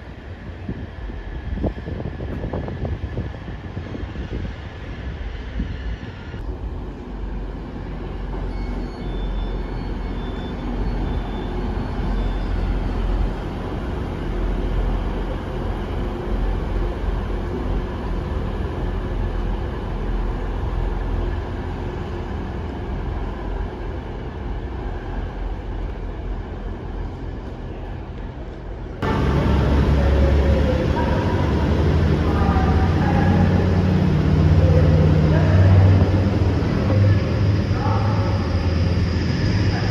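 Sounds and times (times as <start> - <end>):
train engine rumbling: 0.0 - 39.9.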